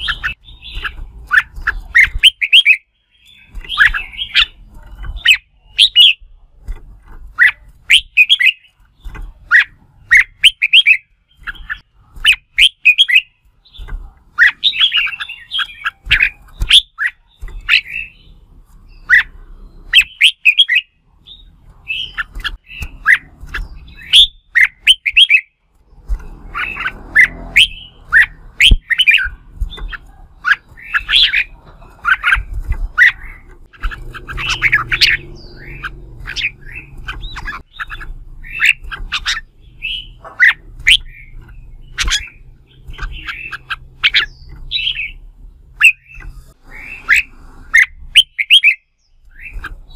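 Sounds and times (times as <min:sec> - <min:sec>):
bulbul chirping song: 0:00.0 - 0:06.6, 0:07.3 - 0:49.9.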